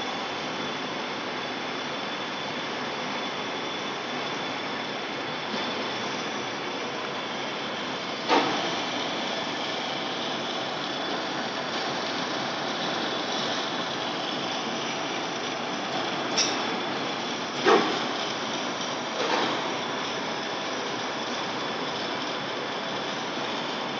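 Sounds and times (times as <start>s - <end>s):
coolant jet: 0.0s - 23.9s
metal lathe machining: 0.0s - 23.9s.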